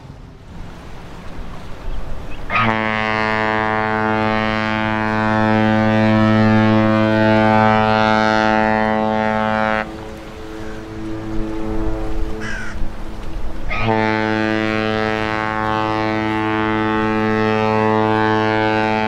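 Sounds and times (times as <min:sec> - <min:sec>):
ship horn deep blast: 0:02.4 - 0:19.0.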